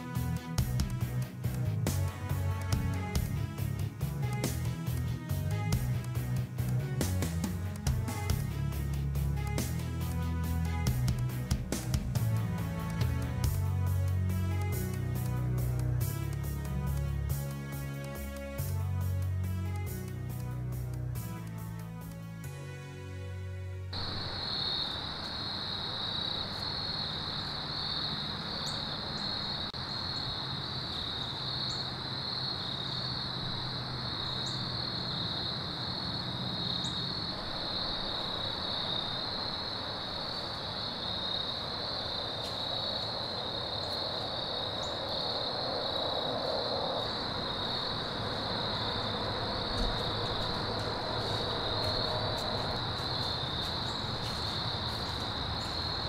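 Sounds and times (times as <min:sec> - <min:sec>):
insects chorus drone: 0:00.0 - 0:22.1, 0:23.9 - 0:56.0.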